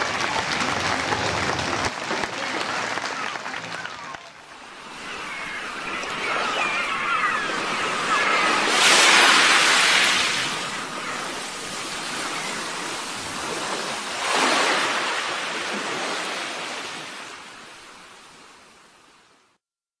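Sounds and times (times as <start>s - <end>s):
ocean waves washing in: 0.0s - 19.4s.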